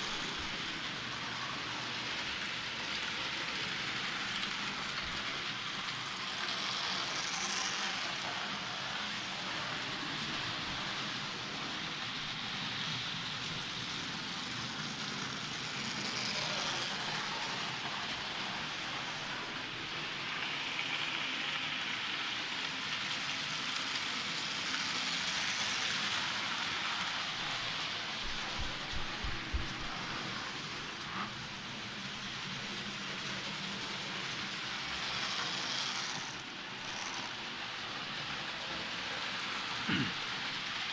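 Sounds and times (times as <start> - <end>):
model train wheels rattling on track: 0.0 - 40.9.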